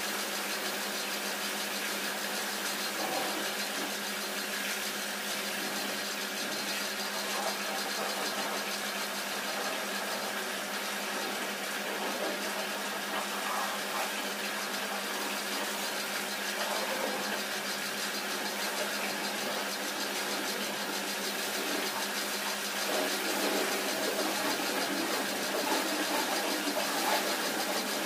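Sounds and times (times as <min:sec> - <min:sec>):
pressure washer motor humming: 0:00.0 - 0:28.0.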